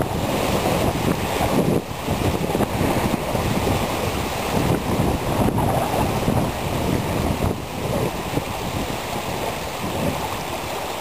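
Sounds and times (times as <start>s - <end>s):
river water lapping and splashing: 0.0s - 11.0s
wind buffeting microphone: 0.0s - 11.0s.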